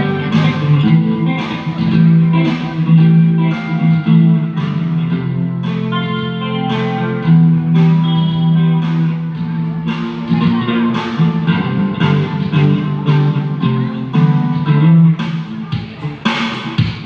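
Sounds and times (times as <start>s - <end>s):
held bass notes: 0.0s - 17.0s
strummed guitar chords: 0.0s - 17.0s.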